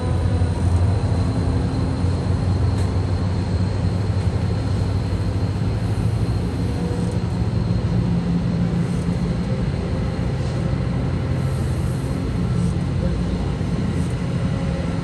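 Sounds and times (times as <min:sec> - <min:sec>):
steel wheels rolling on rail: 0:00.0 - 0:15.0.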